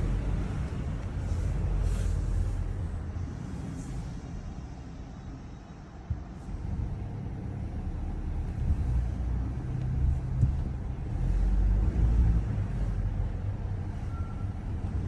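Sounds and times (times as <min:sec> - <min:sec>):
car low rumbling drone: 0:00.0 - 0:15.0.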